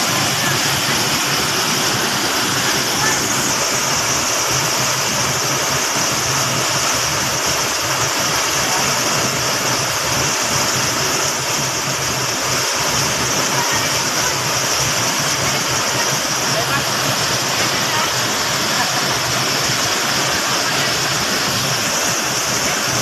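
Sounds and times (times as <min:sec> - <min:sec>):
waterfall pouring: 0:00.0 - 0:23.0.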